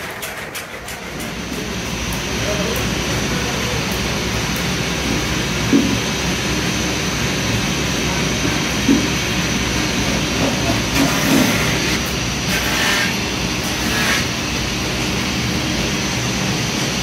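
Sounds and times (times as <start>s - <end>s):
workshop machinery running: 0.0s - 17.0s.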